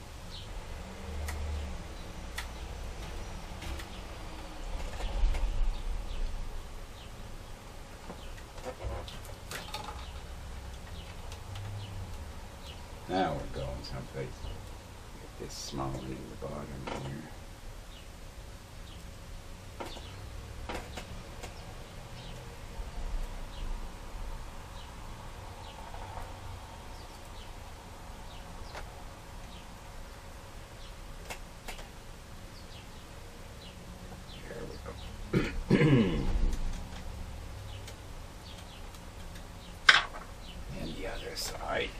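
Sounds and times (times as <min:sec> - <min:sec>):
steady background hiss: 0:00.0 - 0:41.9.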